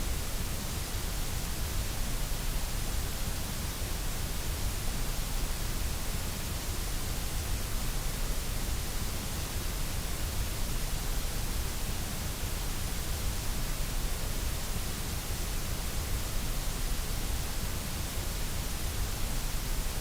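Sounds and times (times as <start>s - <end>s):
white noise hiss: 0.0s - 20.0s.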